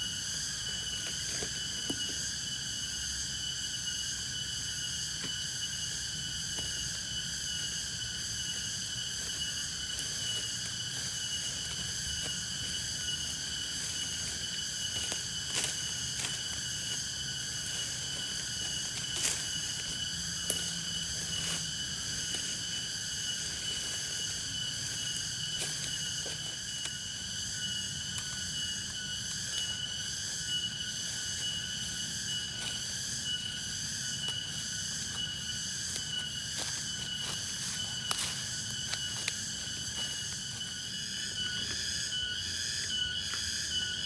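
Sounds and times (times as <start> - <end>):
crickets and insects trilling: 0.0 - 44.0.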